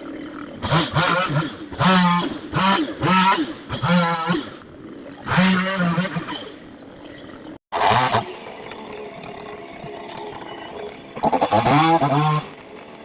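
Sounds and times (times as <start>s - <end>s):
chainsaw running: 0.0s - 6.4s, 7.7s - 13.0s.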